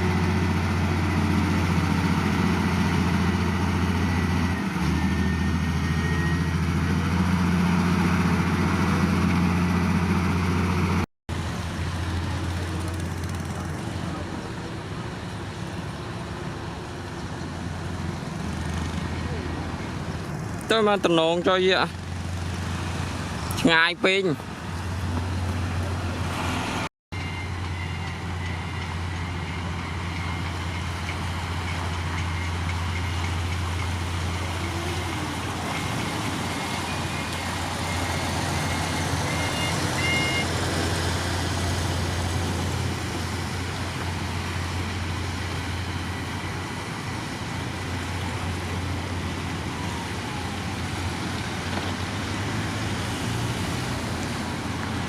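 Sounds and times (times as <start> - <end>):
heavy diesel engine droning: 0.0 - 18.2, 24.9 - 54.8.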